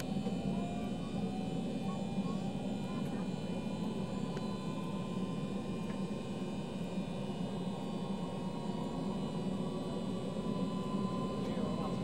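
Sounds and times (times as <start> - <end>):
high steady whining tones: 0.0 - 12.0
turboprop engines droning: 0.0 - 12.0.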